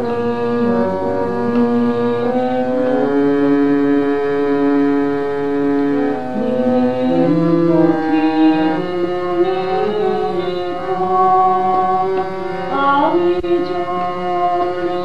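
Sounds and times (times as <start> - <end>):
indian classical style music: 0.0 - 15.0.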